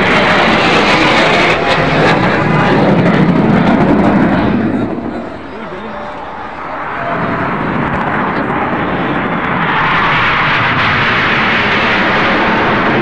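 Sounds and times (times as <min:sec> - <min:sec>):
jet aircraft roaring overhead: 0:00.0 - 0:13.0.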